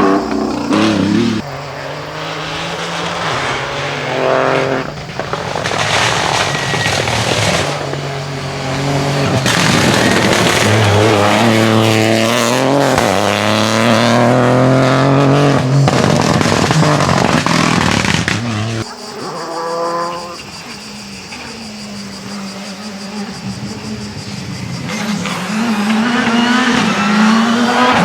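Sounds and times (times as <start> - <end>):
rally car engine revving: 0.0 - 20.4, 21.6 - 28.0.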